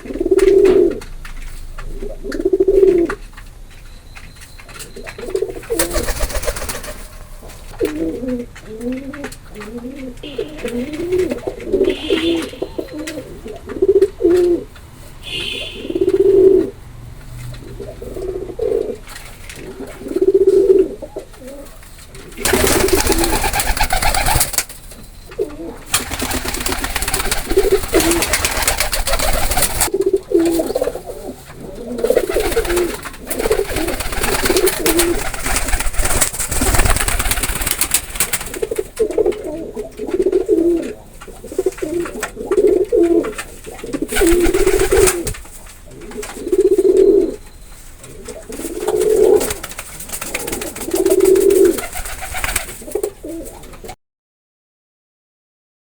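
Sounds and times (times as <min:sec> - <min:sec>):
pigeons cooing: 0:00.0 - 0:01.1, 0:01.8 - 0:03.2, 0:04.8 - 0:16.8, 0:17.5 - 0:24.7, 0:25.3 - 0:54.0.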